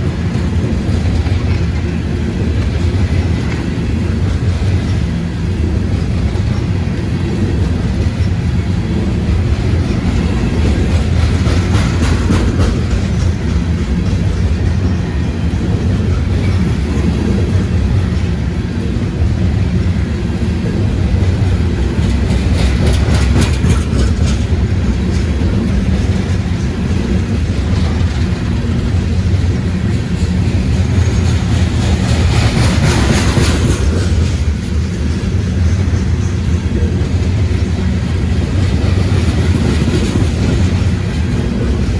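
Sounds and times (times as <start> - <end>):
train wheels rumbling on rails: 0.0 - 41.9
wheels clicking over rail joints: 0.0 - 41.9.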